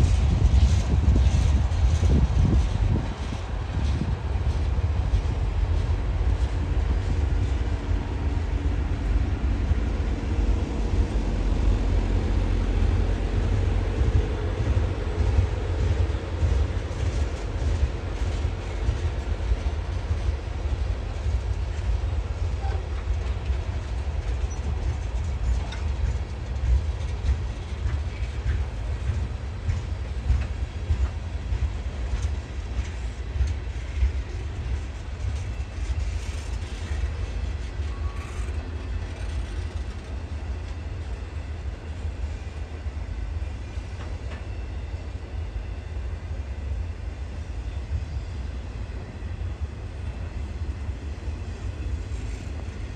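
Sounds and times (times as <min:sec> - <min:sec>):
freight train rumbling: 0:00.0 - 0:52.9
train wheels clicking: 0:00.0 - 0:52.9.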